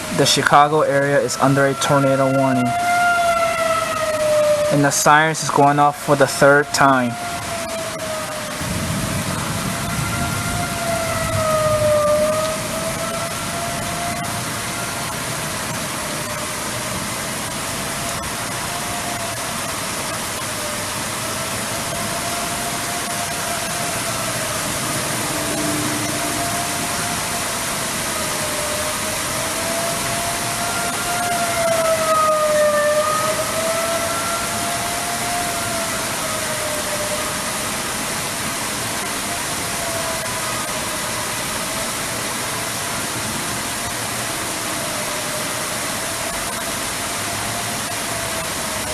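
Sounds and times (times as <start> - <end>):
warning siren wailing: 0.0 - 48.9.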